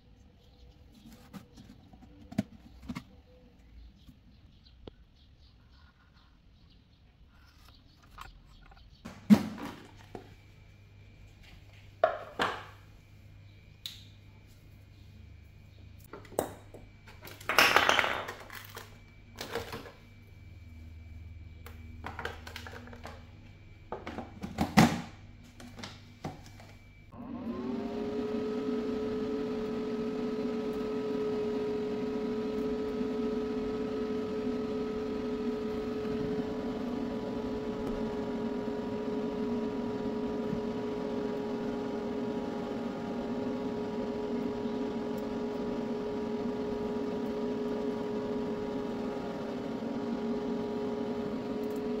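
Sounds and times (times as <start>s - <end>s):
small electric fan humming: 7.6s - 52.0s.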